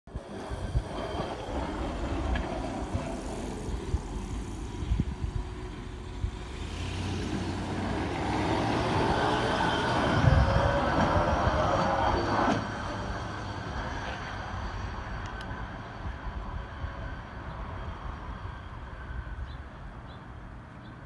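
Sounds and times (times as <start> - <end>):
rising whine: 0.1 - 20.4
truck rumbling along rails: 0.1 - 21.0.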